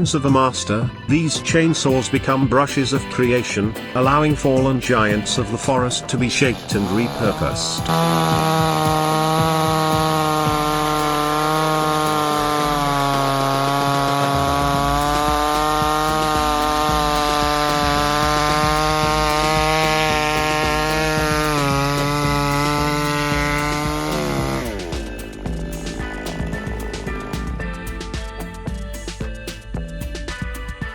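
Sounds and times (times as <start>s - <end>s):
chainsaw cutting wood: 1.9s - 30.3s.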